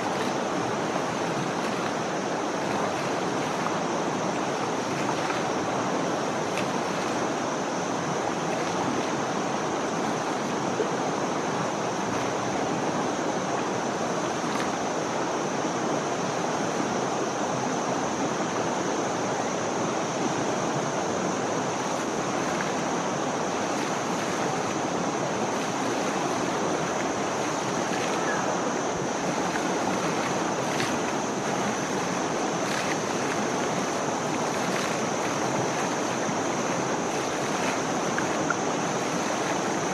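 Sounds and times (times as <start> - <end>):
river water splashing: 0.0 - 39.9.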